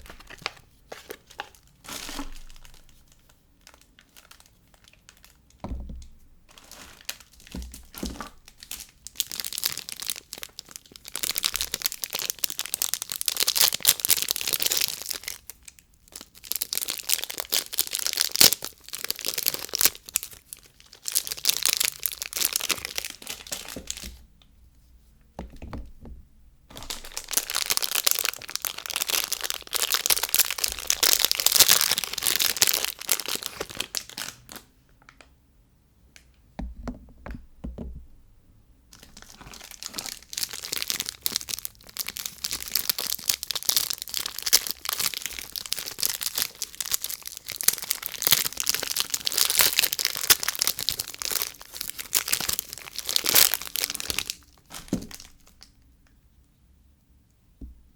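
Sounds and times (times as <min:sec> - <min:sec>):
packaging crinkling and tearing: 0:00.0 - 0:05.6, 0:06.5 - 0:24.2, 0:26.7 - 0:35.2, 0:38.9 - 0:55.8.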